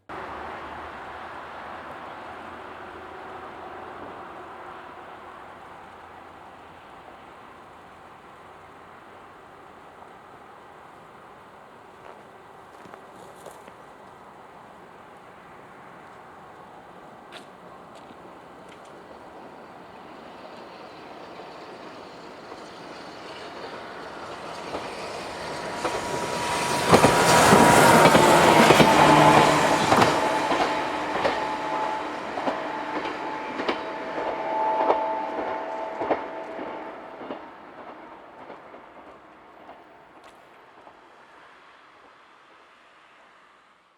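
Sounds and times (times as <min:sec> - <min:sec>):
electric train passing: 0:00.0 - 0:43.9
rail joint clicks: 0:00.1 - 0:41.1.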